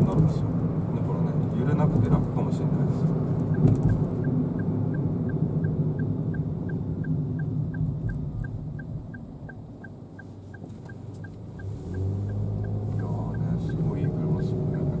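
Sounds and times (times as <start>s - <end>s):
car engine: 0.0s - 15.0s
deep engine hum: 0.0s - 15.0s
road noise: 0.0s - 15.0s
turn signal ticking: 1.5s - 15.0s.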